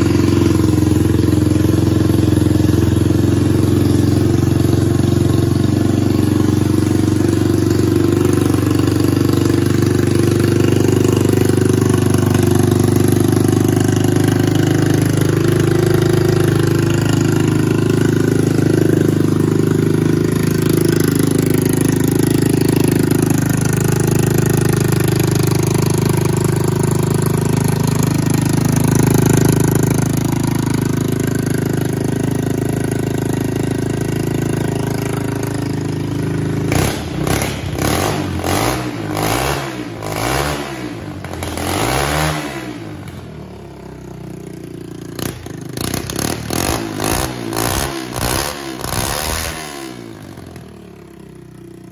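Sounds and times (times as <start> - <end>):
motorcycle engine idling loudly: 0.0 - 51.9.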